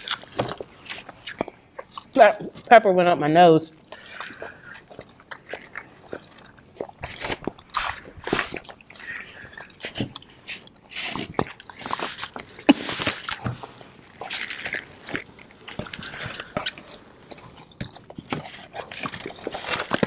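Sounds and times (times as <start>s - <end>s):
people biting and chewing: 0.0s - 2.7s, 3.8s - 20.0s.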